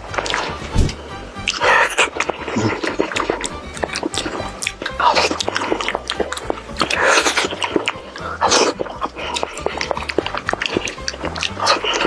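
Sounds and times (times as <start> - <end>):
breathy wet chewing: 0.0 - 12.0
crunchy chewing: 0.0 - 12.0.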